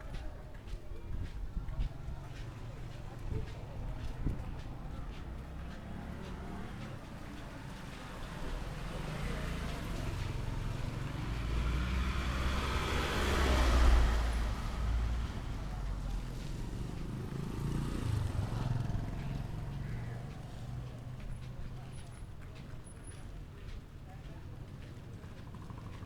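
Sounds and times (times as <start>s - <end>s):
vehicle passing on a street: 0.0s - 26.0s.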